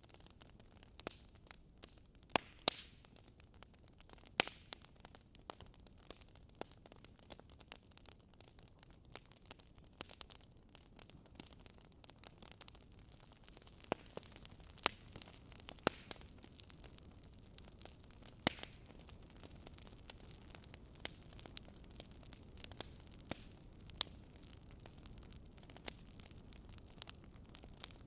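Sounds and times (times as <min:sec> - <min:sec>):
wood fire crackling and popping: 0:00.0 - 0:28.0
low hiss of flames: 0:00.6 - 0:28.0.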